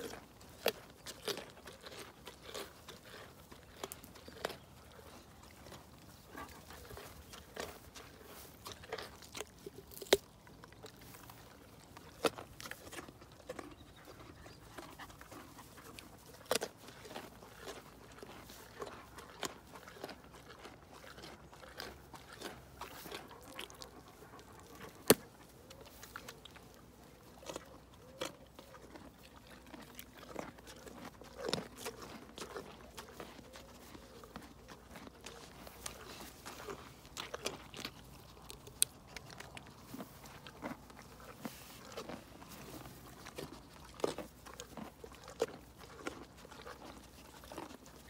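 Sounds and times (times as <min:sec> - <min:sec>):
carrot crunching and chewing: 0:00.0 - 0:48.0.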